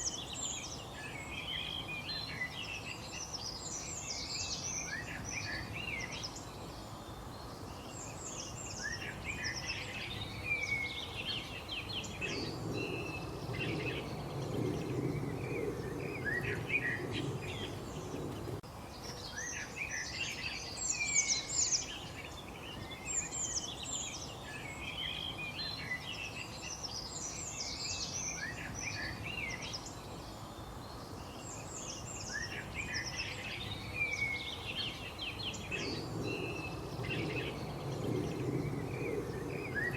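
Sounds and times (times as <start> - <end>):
low background noise: 0.0 - 39.9
songbirds chirping and trilling: 0.0 - 39.9.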